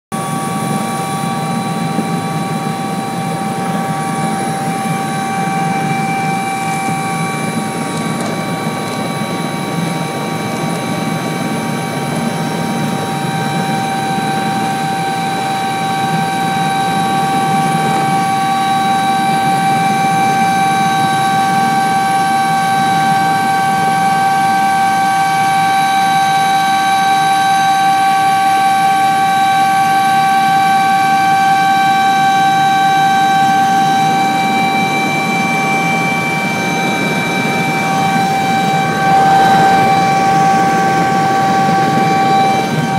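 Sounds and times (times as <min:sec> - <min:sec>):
helicopter rotor rumble: 0:00.1 - 0:42.9
helicopter turbine whine: 0:00.1 - 0:42.9.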